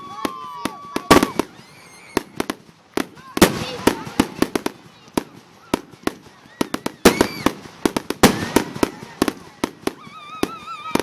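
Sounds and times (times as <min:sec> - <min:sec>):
fireworks bangs with crackling: 0:00.0 - 0:11.0.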